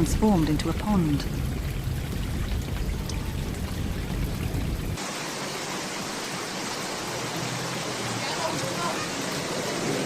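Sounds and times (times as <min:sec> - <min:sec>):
floodwater rushing: 0:00.0 - 0:10.0
rain: 0:00.0 - 0:10.0.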